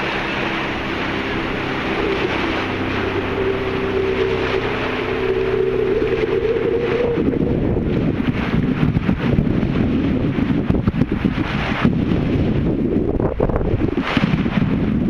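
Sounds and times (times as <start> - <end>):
boat engine droning: 0.0 - 15.0
wind buffeting microphone: 0.0 - 15.0.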